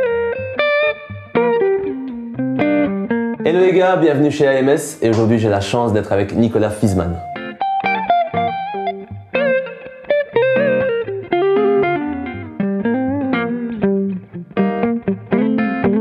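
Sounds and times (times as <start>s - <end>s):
electric guitars playing: 0.0s - 16.0s.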